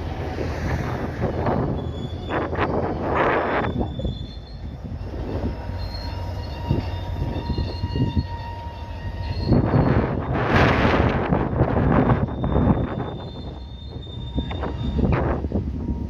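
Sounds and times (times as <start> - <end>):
train wheels squealing: 0.0 - 16.0.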